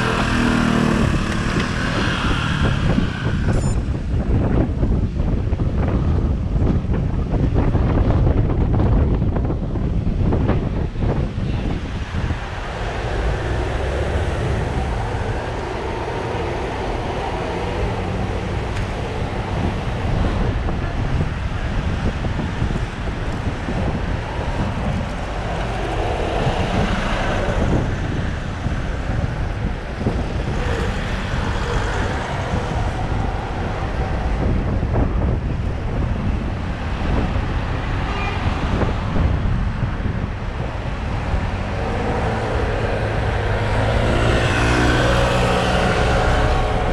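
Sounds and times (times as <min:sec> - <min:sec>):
road traffic passing: 0:00.0 - 0:46.9
wind rumble on microphone: 0:00.0 - 0:46.9.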